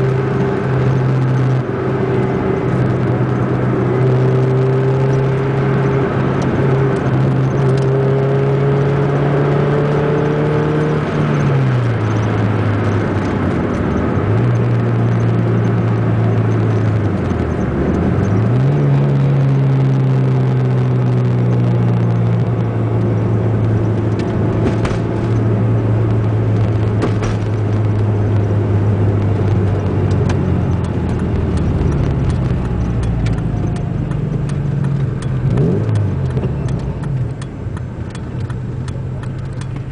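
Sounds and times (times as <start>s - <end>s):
loud car engine revving: 0.0s - 39.9s.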